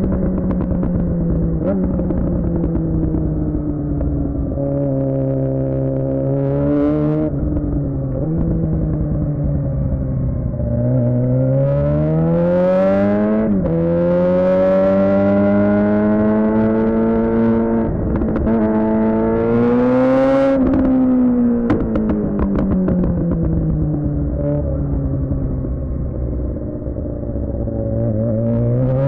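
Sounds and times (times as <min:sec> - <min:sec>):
motorcycle engine shifting gears: 0:00.0 - 0:29.0.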